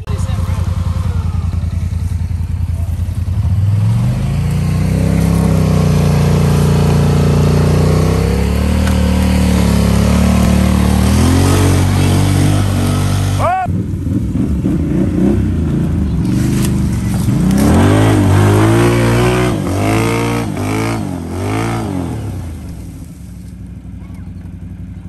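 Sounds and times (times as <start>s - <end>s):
atv engine revving hard: 0.0s - 2.0s, 2.6s - 23.0s.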